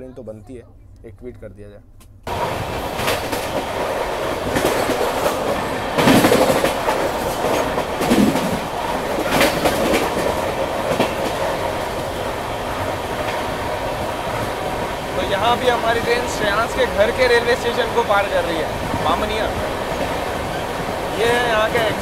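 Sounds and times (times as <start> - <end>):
train wind and rail noise: 0.0 - 22.0
wheels clacking over rail joints: 2.3 - 22.0.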